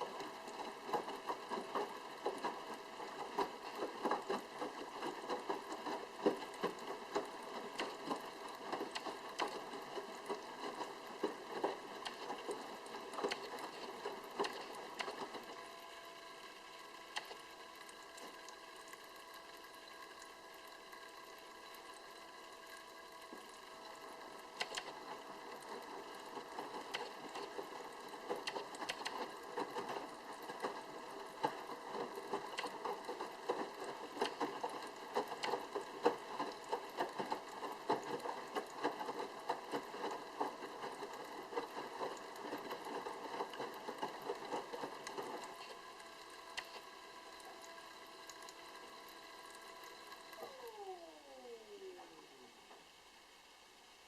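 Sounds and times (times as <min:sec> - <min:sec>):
washing machine pump hum: 0:00.0 - 0:54.0.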